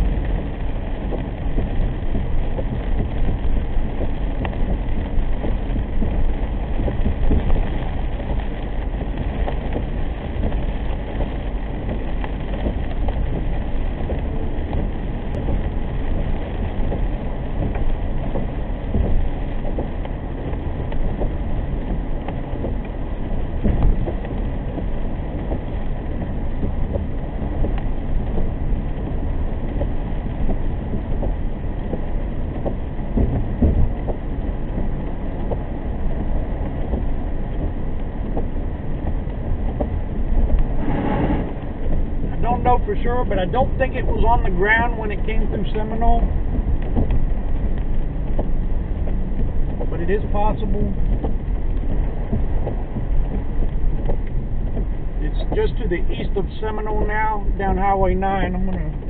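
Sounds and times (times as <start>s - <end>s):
car tyres on wet road: 0.0s - 59.0s
rain on windshield: 0.0s - 59.0s.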